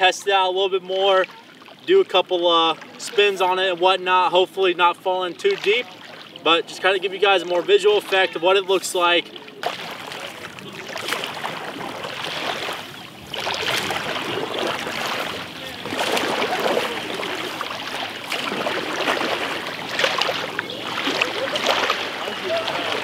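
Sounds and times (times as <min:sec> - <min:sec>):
paddle splashing in water: 0:00.0 - 0:23.0.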